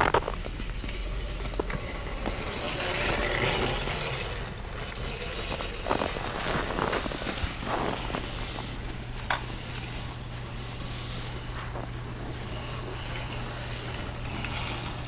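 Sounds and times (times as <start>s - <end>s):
electric motorbike motor: 0.0s - 15.0s
snow crunching: 0.0s - 15.0s
tyres working through snow: 0.0s - 15.0s.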